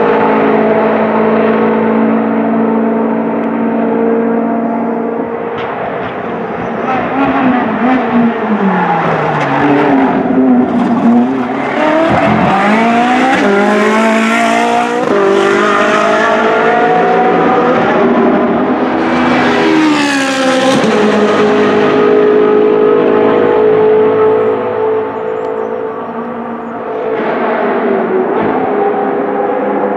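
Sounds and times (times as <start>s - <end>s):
race car engine accelerating: 0.0s - 29.9s.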